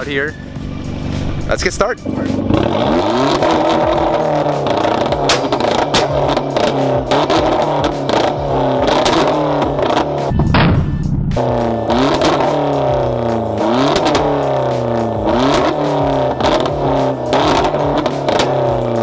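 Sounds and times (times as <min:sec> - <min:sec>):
car engine revving: 0:00.0 - 0:19.0
exhaust crackles: 0:00.0 - 0:19.0.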